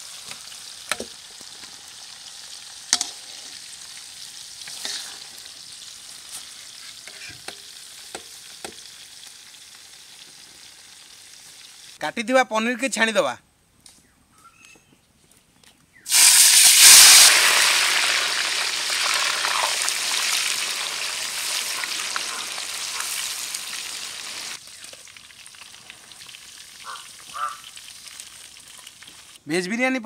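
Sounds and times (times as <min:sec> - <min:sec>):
food sizzling in hot oil: 0:00.0 - 0:12.0, 0:16.1 - 0:29.4.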